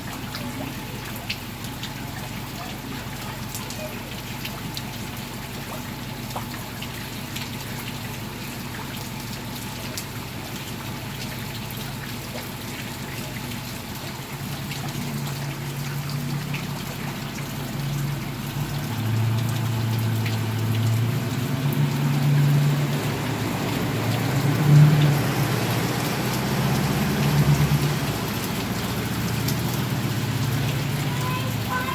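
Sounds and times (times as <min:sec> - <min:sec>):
heavy rain splashing: 0:00.0 - 0:31.9.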